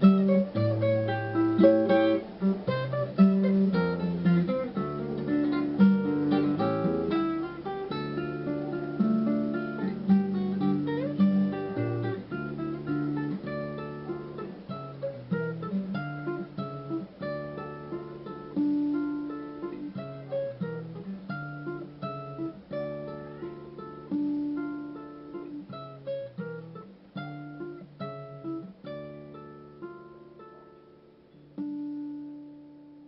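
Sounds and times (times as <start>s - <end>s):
solo acoustic guitar: 0.0s - 33.0s.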